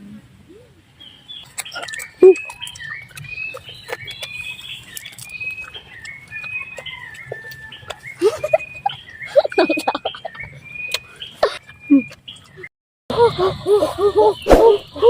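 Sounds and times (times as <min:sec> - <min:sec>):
birds chirping: 0:00.5 - 0:15.0.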